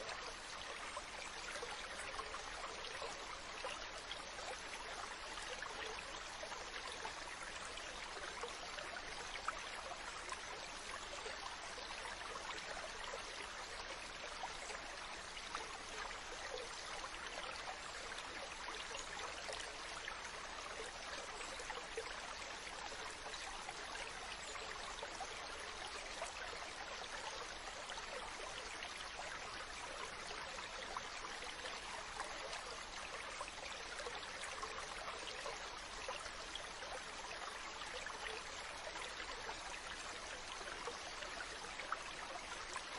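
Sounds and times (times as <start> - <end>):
water flowing: 0.0 - 42.9.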